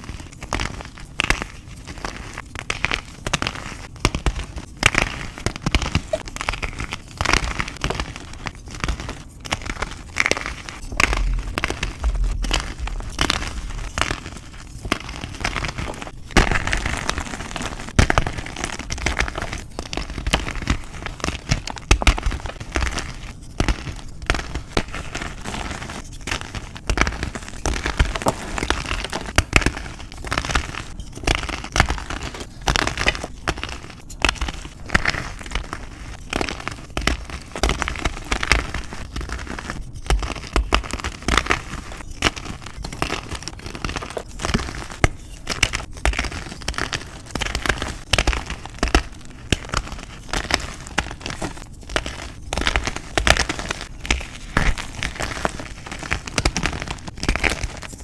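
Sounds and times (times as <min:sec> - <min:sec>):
chalk being crushed and crumbled: 0:00.0 - 0:58.0.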